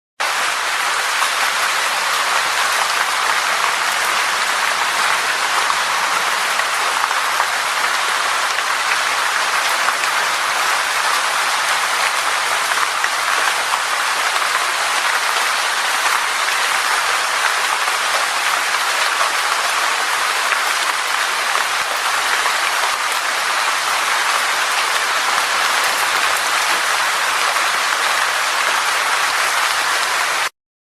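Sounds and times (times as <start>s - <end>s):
steady rain: 0.2s - 30.5s.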